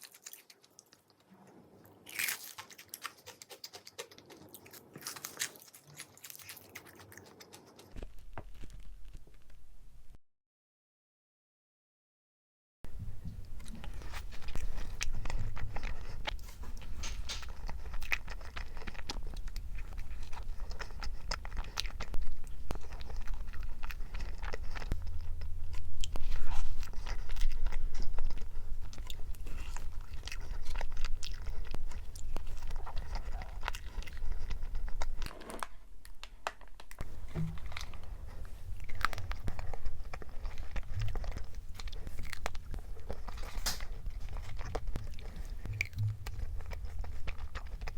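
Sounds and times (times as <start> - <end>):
person chewing food: 0.0 - 8.7, 13.3 - 47.9.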